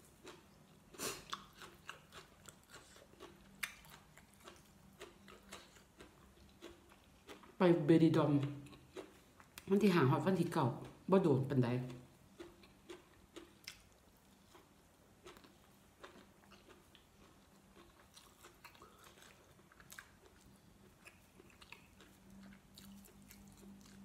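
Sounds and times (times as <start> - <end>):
person chewing: 0.0 - 7.6, 8.4 - 9.7, 11.8 - 24.0.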